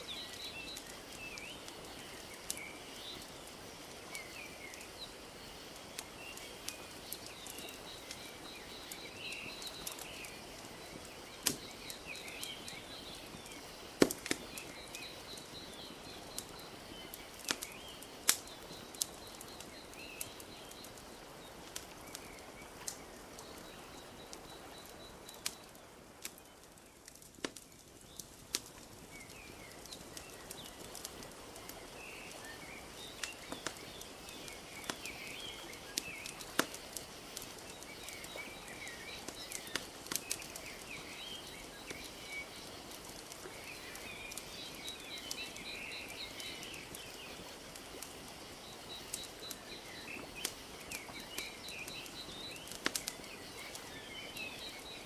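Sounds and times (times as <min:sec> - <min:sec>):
birds chirping: 0:00.0 - 0:55.0
wood fire crackling: 0:00.0 - 0:55.0.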